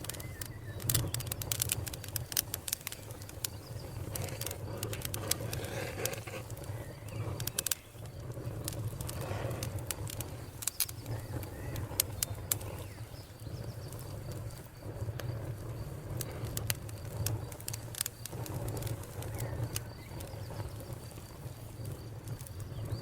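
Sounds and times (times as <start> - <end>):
low rumble of burning logs: 0.0 - 23.0
wood fire crackling and popping: 0.0 - 23.0.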